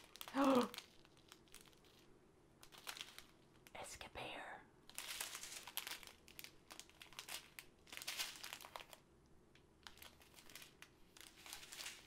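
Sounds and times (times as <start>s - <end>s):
plastic bags crinkling: 0.0s - 3.7s, 4.9s - 9.0s, 9.8s - 12.0s.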